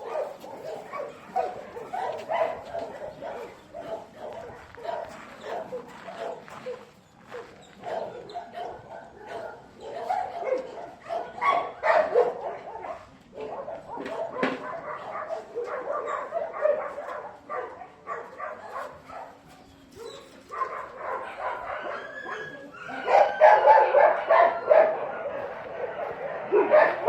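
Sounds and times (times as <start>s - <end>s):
dogs barking: 0.0s - 27.0s.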